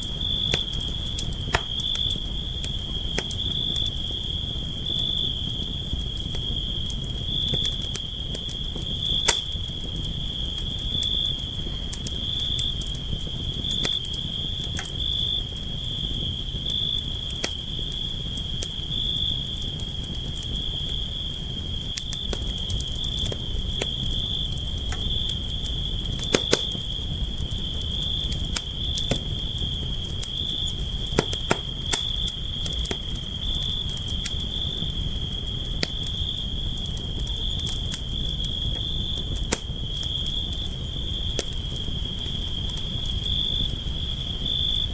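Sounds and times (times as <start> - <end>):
campfire crackling: 0.0 - 44.9
insect trill: 0.0 - 44.9.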